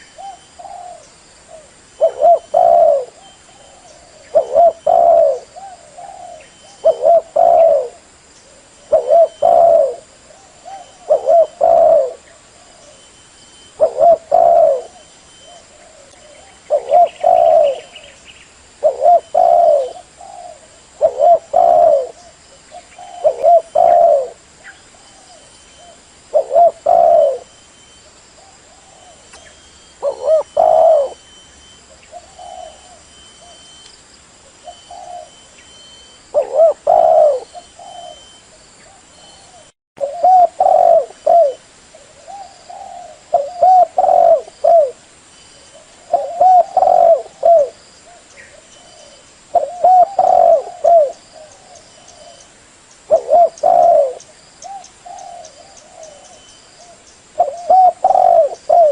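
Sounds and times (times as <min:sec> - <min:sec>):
dove cooing: 0:00.0 - 0:33.8, 0:34.5 - 0:45.0, 0:45.6 - 0:52.5, 0:53.1 - 0:58.9.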